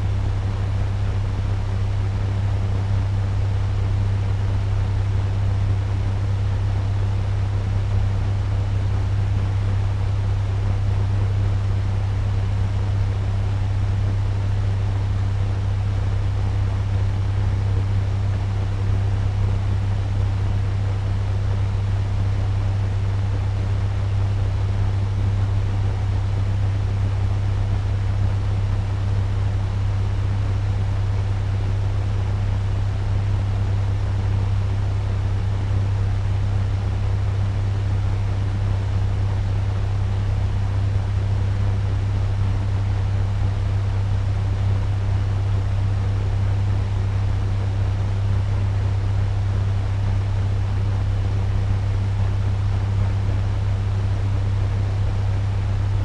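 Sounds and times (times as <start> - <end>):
fan running with air rush: 0.0 - 56.0.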